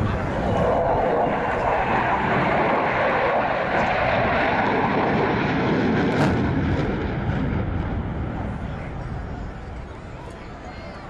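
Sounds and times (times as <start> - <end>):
jet roar flying past: 0.0 - 10.3.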